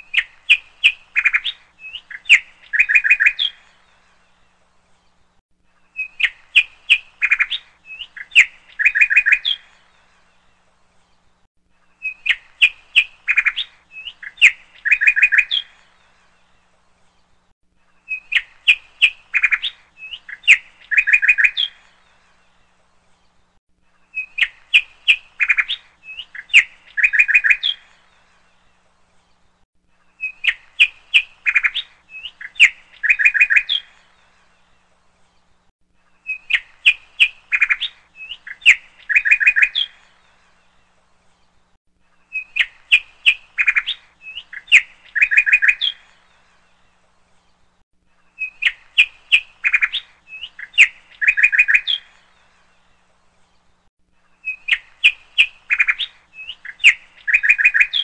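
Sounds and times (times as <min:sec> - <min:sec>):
birds chirping and trilling: 0:00.0 - 0:58.0.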